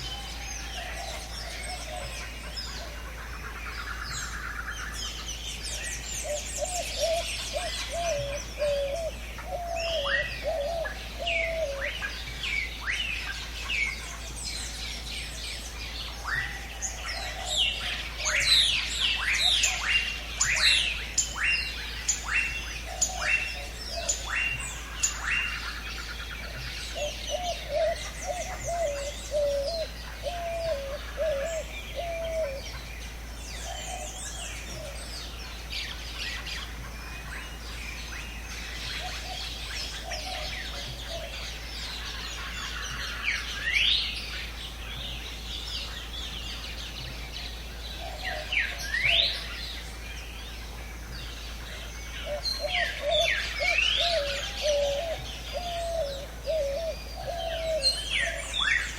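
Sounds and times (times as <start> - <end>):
low warbling bird call: 0.0 - 58.9.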